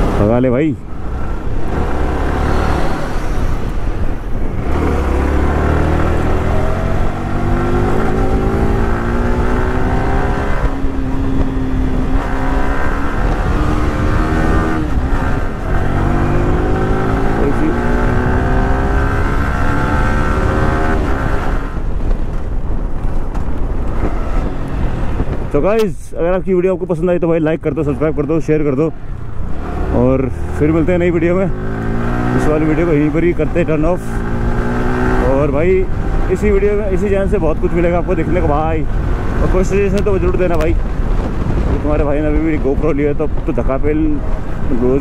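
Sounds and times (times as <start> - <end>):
motorcycle engine accelerating: 0.0 - 25.6, 27.9 - 45.0
wind buffeting microphone: 0.0 - 45.0.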